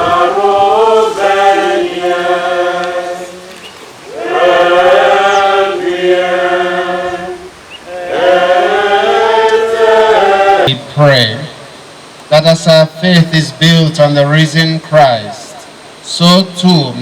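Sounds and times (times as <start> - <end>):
voices singing liturgical chant: 0.0 - 17.0.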